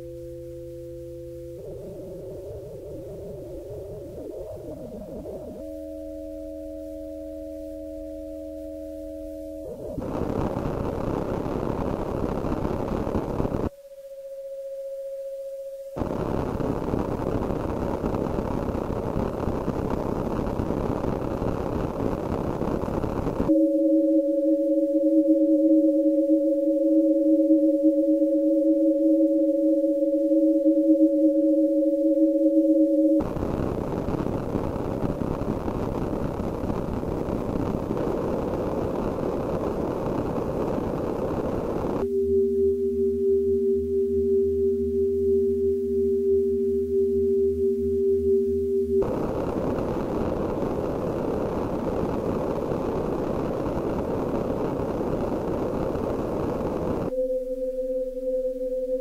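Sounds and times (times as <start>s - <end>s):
grainy electronic noise texture: 0.0s - 13.7s, 16.0s - 44.4s, 48.9s - 59.0s
steady sine tone: 0.0s - 59.0s.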